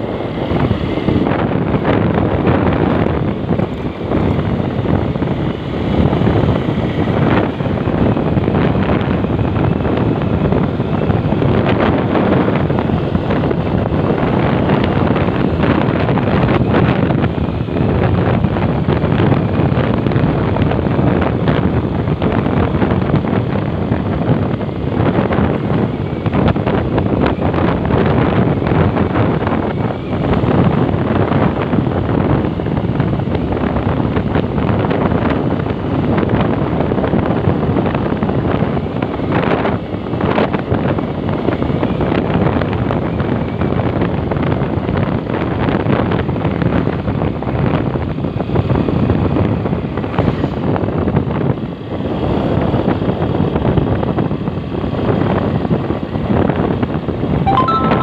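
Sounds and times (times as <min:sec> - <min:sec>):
motorcycle engine and road noise: 0:00.0 - 0:57.4
wind buffeting microphone: 0:00.0 - 0:57.4.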